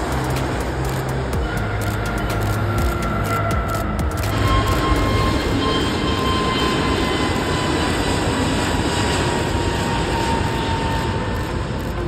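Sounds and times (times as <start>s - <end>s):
faint high jet whine: 0.0s - 12.0s
jet engines rushing: 0.0s - 12.0s.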